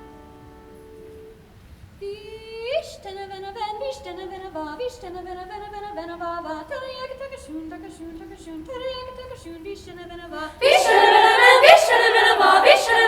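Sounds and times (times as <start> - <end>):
treble choir singing: 2.3 - 13.0.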